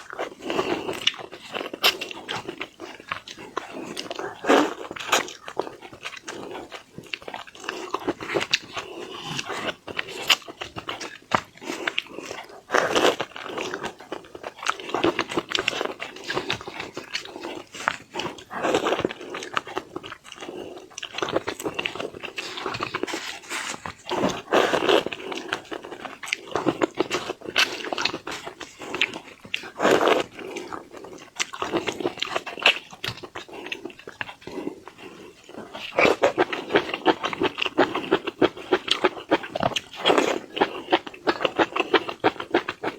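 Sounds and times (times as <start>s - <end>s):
person chewing wetly: 0.0s - 42.9s.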